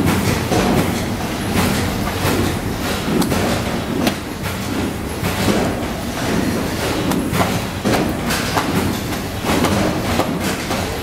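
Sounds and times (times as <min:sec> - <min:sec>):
binding machine roller humming: 0:00.0 - 0:11.0.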